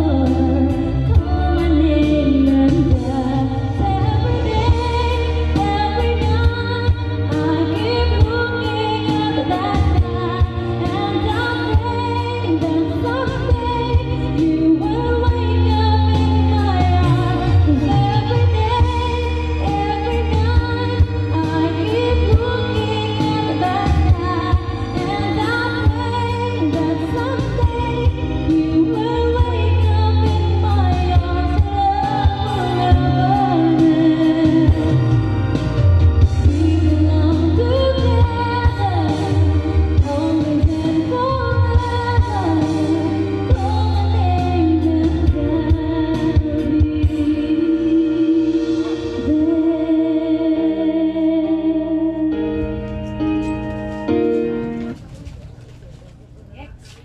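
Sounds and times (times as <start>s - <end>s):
backing track with beat and bass: 0.0s - 51.1s, 52.3s - 57.0s
woman singing pop love song: 0.0s - 52.9s.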